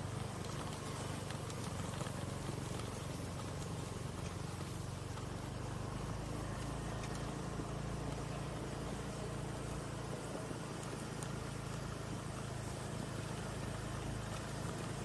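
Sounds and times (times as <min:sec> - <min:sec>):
road and wind noise: 0:00.0 - 0:15.0
small motorcycle engine running: 0:00.0 - 0:15.0.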